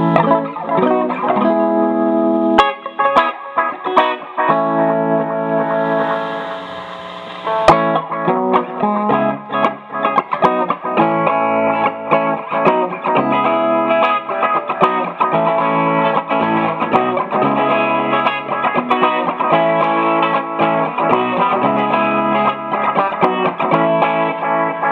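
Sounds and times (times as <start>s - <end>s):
clean electric guitar: 0.0s - 24.9s.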